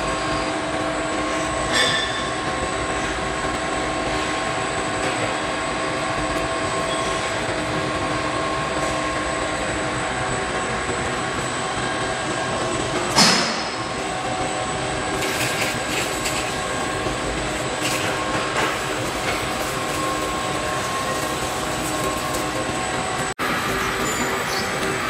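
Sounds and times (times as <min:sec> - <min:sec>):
industrial machinery humming: 0:00.0 - 0:25.0.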